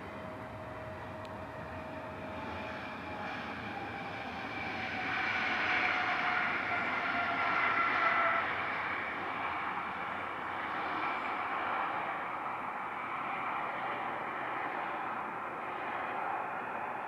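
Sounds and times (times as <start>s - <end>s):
jet airliner engines whining: 0.0s - 17.0s.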